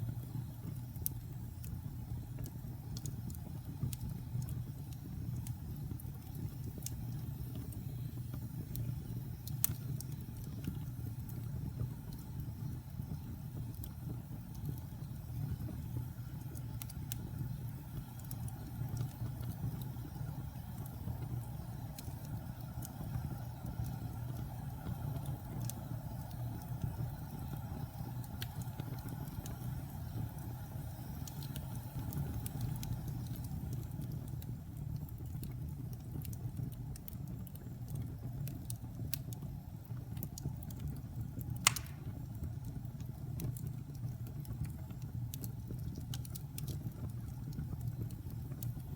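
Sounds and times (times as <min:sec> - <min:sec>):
wood fire burning: 0:00.0 - 0:48.9.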